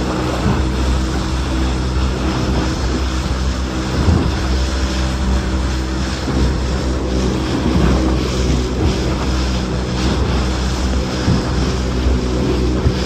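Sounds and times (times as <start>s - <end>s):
hull slapping waves: 0.0s - 13.0s
outboard motor running: 0.0s - 13.0s
water rushing past: 0.0s - 13.0s.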